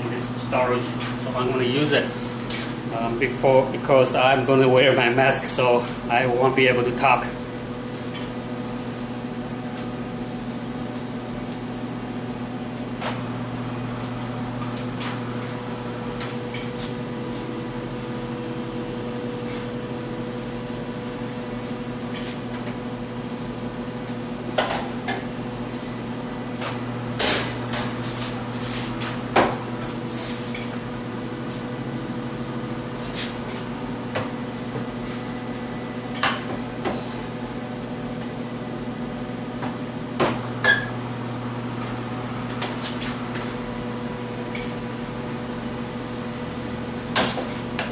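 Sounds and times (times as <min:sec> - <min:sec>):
electrical hum: 0:00.0 - 0:47.9.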